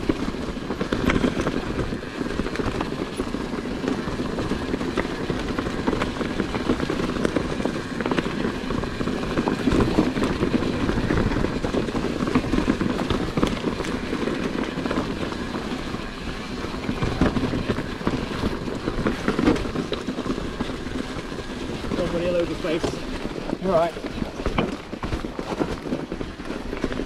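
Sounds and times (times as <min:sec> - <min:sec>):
mountain bike rattling: 0:00.0 - 0:27.0.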